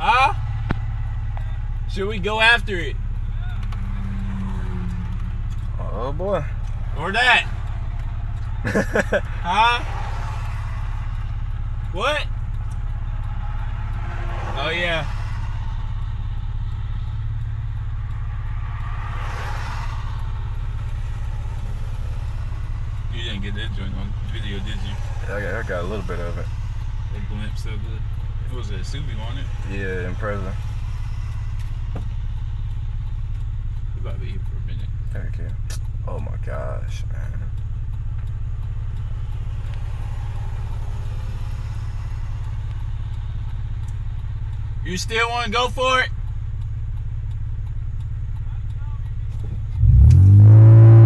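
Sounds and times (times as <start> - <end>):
car engine droning in cabin: 0.0 - 51.0
road noise hiss: 0.0 - 51.0.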